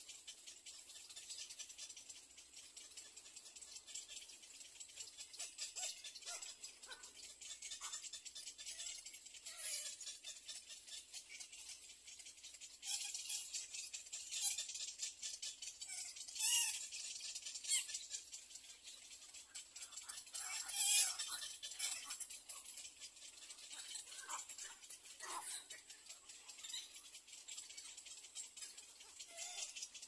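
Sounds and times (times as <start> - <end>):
nestlings rattling begging calls: 0.0 - 30.0.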